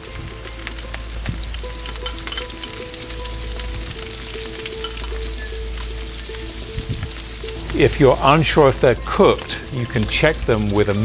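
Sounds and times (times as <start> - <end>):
fat sizzling in a pan: 0.0 - 11.0.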